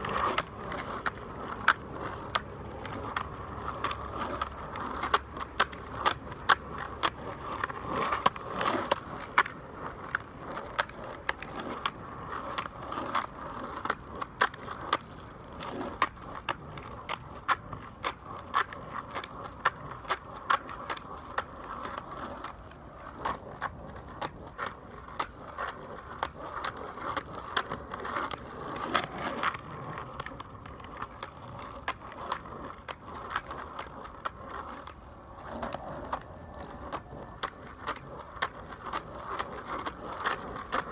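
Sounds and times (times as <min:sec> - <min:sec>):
skateboard rolling on rough pavement: 0:00.0 - 0:40.9.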